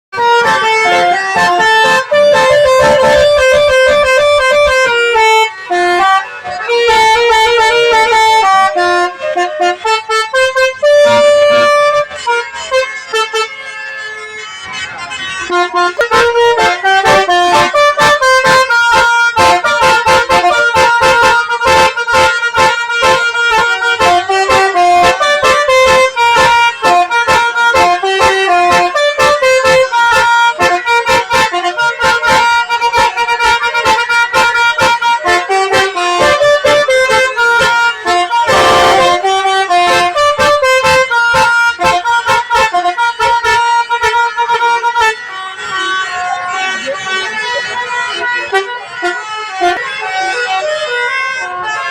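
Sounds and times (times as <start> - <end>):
musical air horn tune: 0.2 - 51.9.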